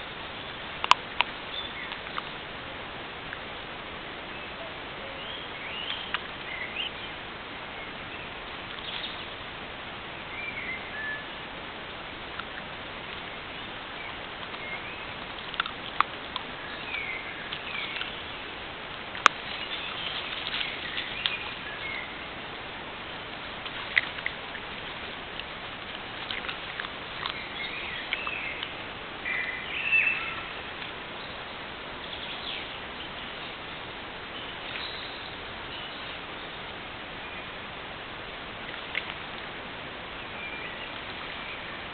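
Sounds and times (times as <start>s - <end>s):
small birds singing: 0.0s - 2.5s, 4.3s - 9.5s, 10.1s - 11.4s, 12.4s - 22.4s, 23.6s - 37.6s, 40.0s - 41.9s
steady hiss: 0.0s - 41.9s.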